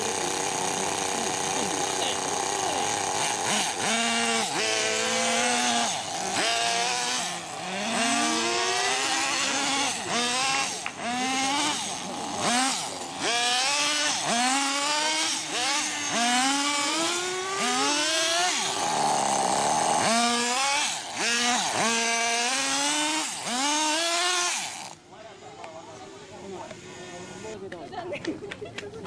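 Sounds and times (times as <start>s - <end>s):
model car engines buzzing: 0.0s - 27.7s.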